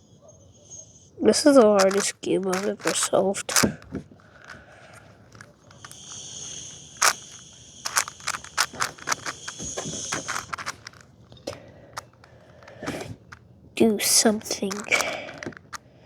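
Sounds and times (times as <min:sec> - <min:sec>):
plastic puzzle cube clicking: 0:01.5 - 0:15.9.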